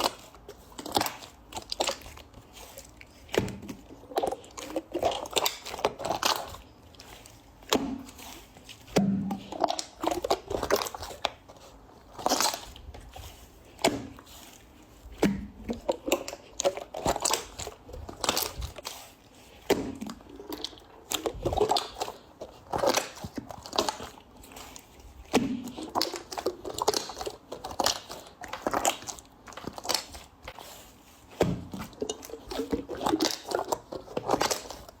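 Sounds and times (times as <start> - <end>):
slime squelching and popping: 0.0 - 35.0.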